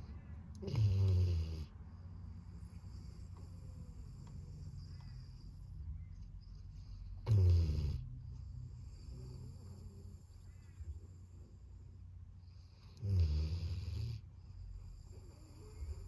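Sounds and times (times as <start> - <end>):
dog snoring: 0.6 - 5.7, 6.8 - 11.8, 12.4 - 16.0.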